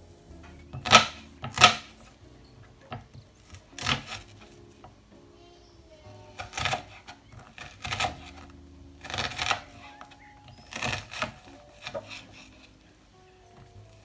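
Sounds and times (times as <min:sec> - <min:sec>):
soft music with held notes: 0:00.0 - 0:14.0.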